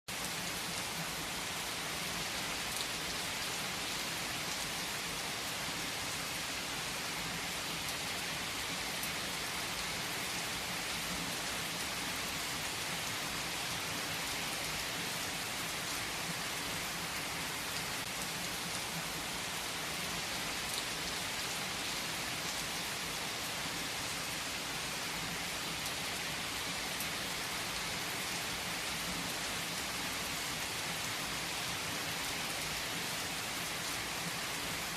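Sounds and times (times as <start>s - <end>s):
steady rain hissing: 0.1s - 34.9s.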